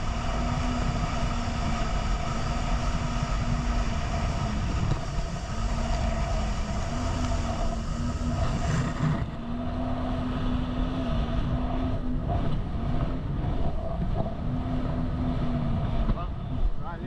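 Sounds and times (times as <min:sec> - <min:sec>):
jet ski engine running: 0:00.0 - 0:17.0
wind rushing across microphone: 0:00.0 - 0:17.0.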